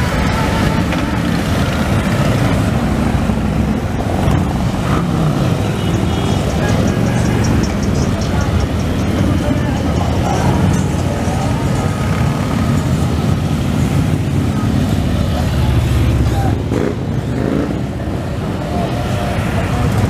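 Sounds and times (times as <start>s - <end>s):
motorcycle engine revving: 0.0s - 18.6s
motorcycles rumbling past: 0.0s - 20.0s.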